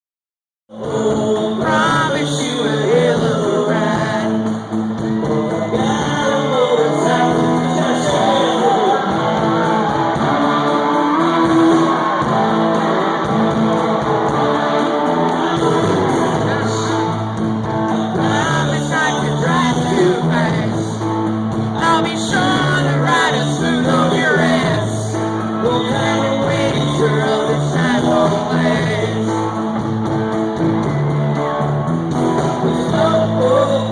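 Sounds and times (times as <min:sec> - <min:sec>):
person singing: 0:00.7 - 0:30.6, 0:32.3 - 0:33.9
live country-rock band: 0:00.7 - 0:33.9.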